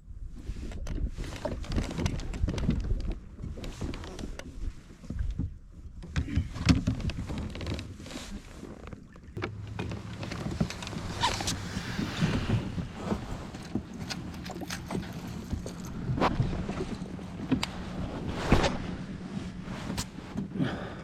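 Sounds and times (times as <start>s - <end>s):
water lapping at hull: 0.5s - 21.0s.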